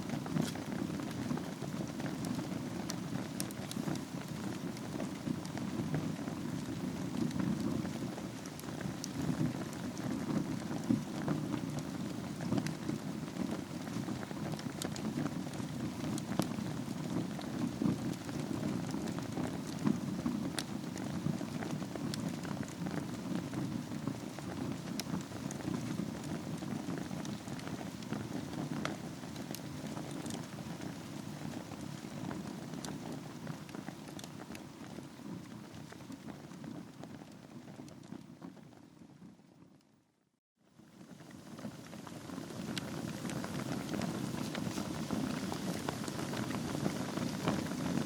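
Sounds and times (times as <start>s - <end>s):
burning wood crackling and popping: 0.0s - 39.1s, 40.9s - 48.0s
wood fire flame rushing: 0.0s - 39.1s, 41.0s - 48.0s.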